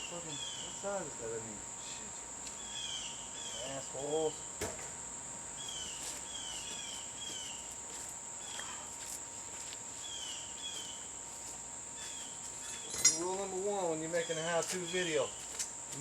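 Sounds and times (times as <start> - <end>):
high-pitched insect drone: 0.0 - 4.6, 5.6 - 16.0.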